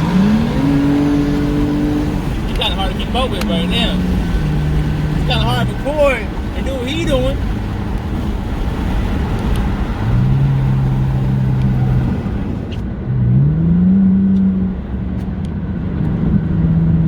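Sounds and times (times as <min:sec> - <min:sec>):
car engine accelerating: 0:00.0 - 0:17.0
road and wind noise: 0:00.0 - 0:17.0.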